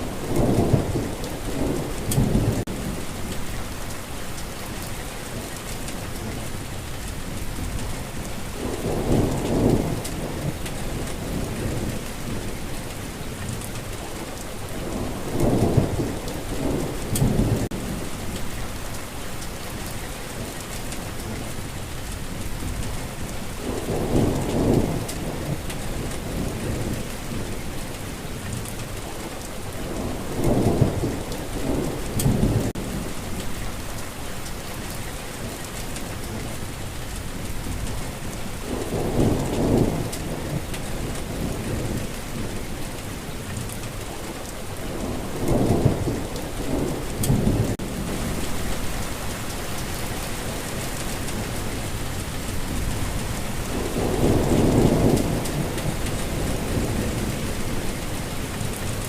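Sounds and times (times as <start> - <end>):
low rumbles of thunder: 0.0 - 59.0
steady rain: 0.0 - 59.0.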